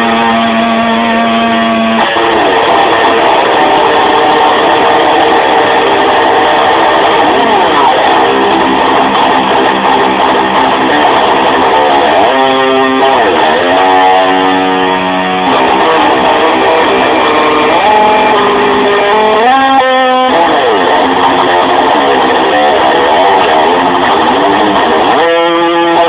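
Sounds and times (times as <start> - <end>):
electric guitar sustained notes: 0.0 - 26.0
guitar whammy-bar dive-bombs: 0.0 - 26.0.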